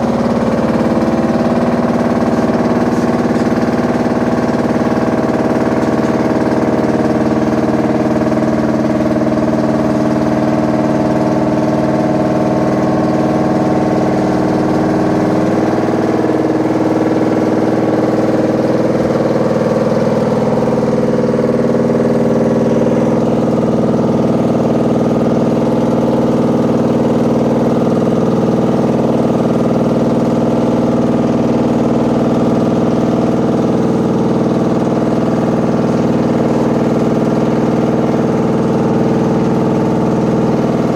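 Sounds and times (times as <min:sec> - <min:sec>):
washing machine droning: 0:00.0 - 0:40.9.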